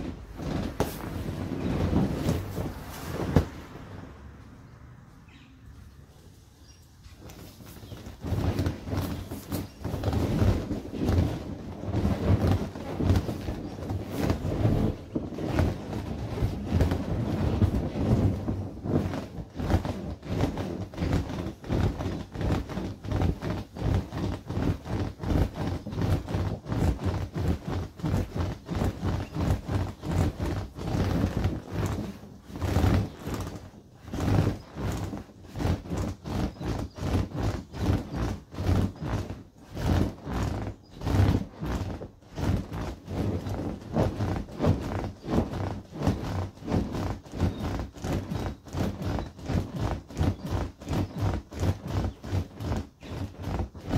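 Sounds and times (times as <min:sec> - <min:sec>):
inflatable toy thumping and rubbing: 0:00.0 - 0:04.1, 0:07.1 - 0:53.9.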